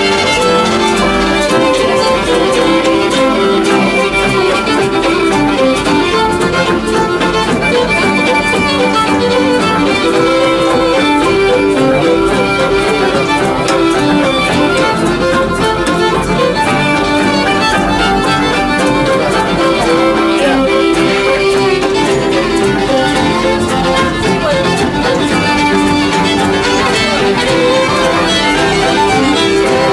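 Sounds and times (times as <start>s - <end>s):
fiddles playing a tune: 0.0s - 29.9s
guitar accompaniment: 0.0s - 29.9s.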